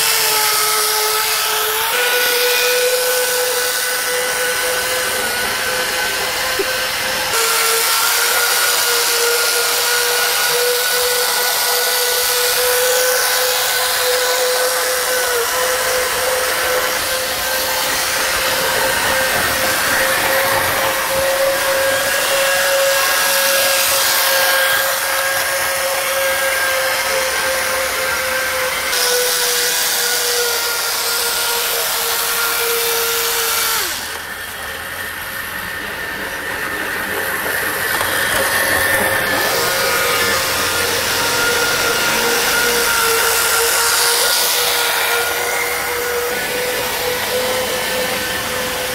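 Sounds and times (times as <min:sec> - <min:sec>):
small electric motor whining: 0:00.0 - 0:48.9.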